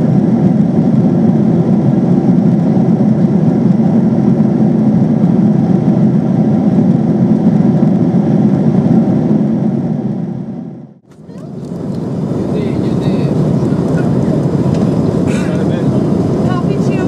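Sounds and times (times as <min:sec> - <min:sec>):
airplane cabin engine and airflow rush: 0:00.0 - 0:17.0.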